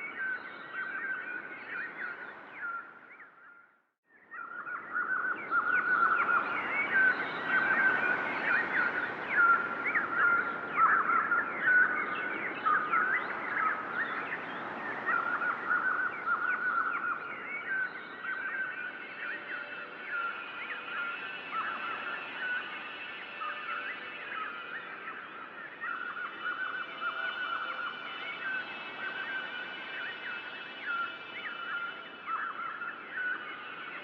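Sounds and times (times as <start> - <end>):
songbirds chirping in chorus: 0.0 - 34.0.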